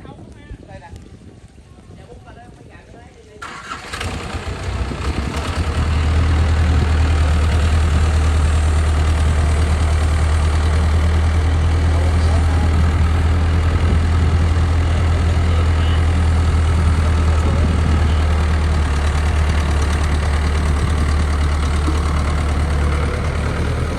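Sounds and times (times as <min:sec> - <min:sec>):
diesel engine idling: 0:03.4 - 0:23.9.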